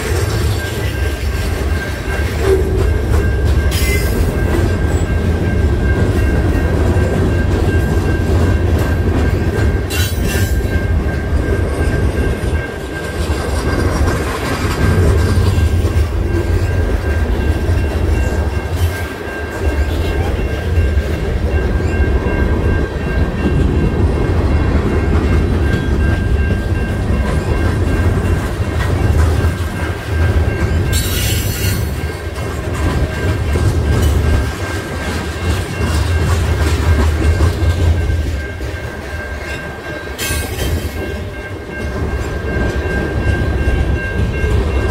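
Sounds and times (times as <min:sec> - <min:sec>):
freight train wheels rumbling: 0:00.0 - 0:44.9.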